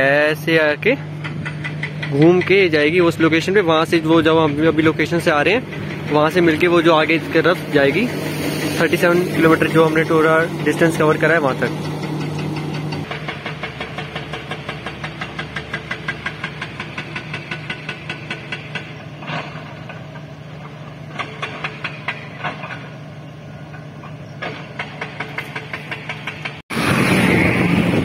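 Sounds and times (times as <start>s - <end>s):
engine idling with ticking: 0.0s - 26.6s.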